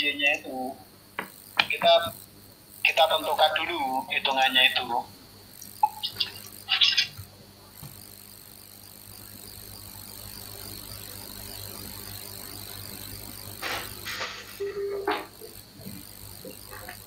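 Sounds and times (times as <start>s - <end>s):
faint high drone: 0.0s - 17.0s.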